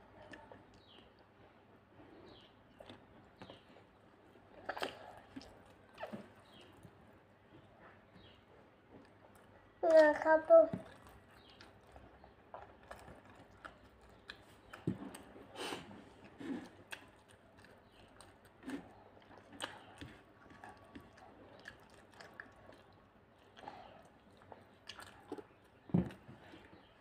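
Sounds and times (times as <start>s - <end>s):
people chewing and eating: 0.0s - 27.0s.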